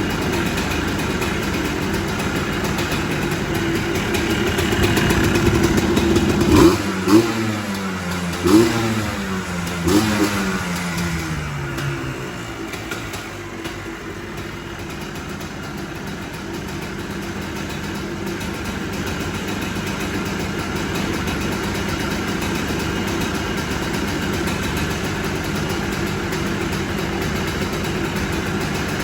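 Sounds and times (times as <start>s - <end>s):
two-stroke engine idling: 0.0s - 29.0s.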